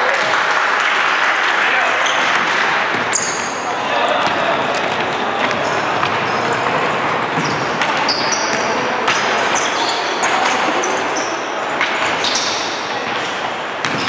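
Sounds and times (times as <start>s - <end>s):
murmur of voices echoing: 0.0s - 14.0s
sneakers squeaking: 1.9s - 14.0s.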